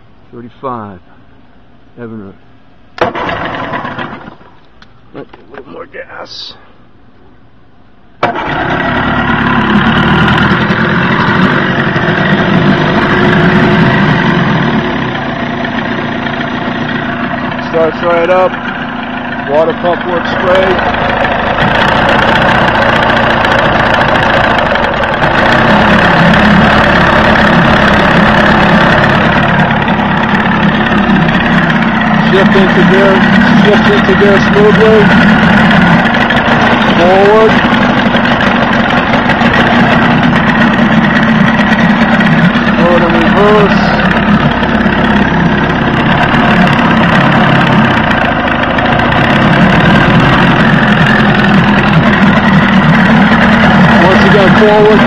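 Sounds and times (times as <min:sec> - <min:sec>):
outboard motor idling: 0:00.0 - 0:55.0.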